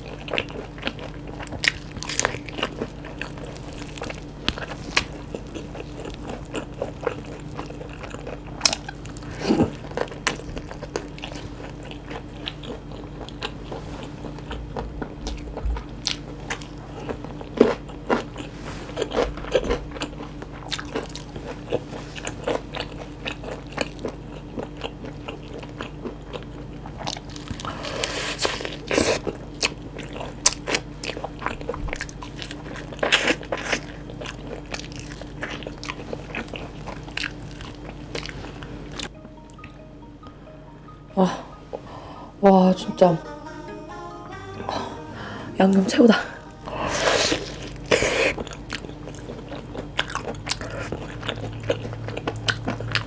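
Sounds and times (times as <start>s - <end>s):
fried chicken crunching: 0.0s - 39.1s, 47.4s - 53.0s
soft chewing: 0.0s - 39.1s, 47.0s - 53.0s.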